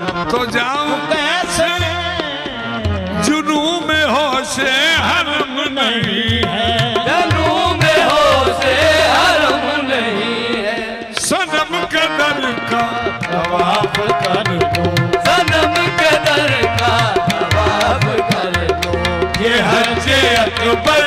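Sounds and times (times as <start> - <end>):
harmonium: 0.0 - 21.0
tabla: 0.0 - 21.0.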